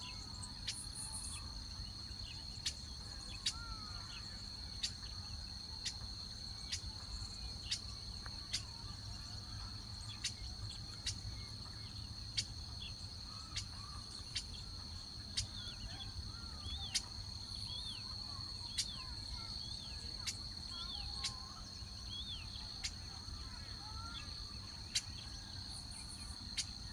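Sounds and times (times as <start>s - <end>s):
insects trilling: 0.0s - 26.9s
small birds chirping: 0.0s - 26.9s.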